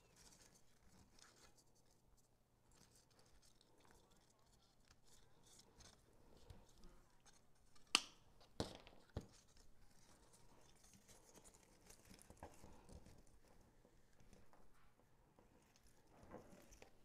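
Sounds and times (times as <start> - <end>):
rustling of artificial greenery: 0.0 - 17.0.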